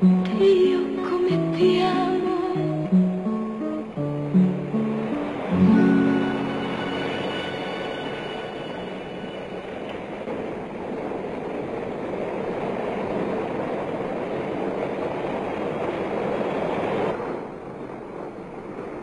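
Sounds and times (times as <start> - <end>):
airliner engines roaring: 0.0 - 19.0.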